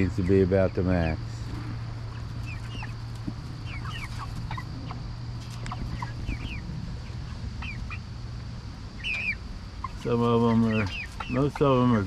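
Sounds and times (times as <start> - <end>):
chicks peeping and chirping: 0.0 - 12.0
steady low hum: 0.0 - 12.0.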